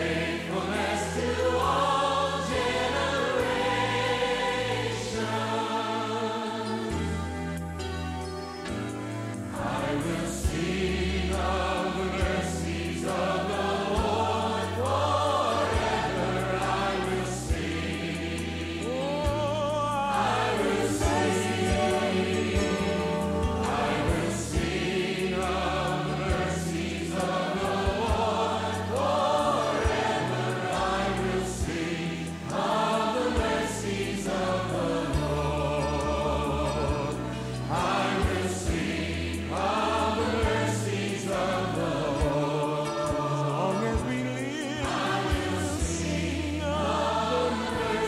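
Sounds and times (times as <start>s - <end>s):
choir singing: 0.0s - 48.0s.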